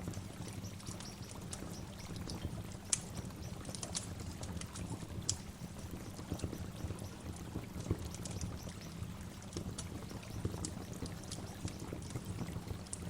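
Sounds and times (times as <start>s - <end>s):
water splashes and drips: 0.0s - 13.0s.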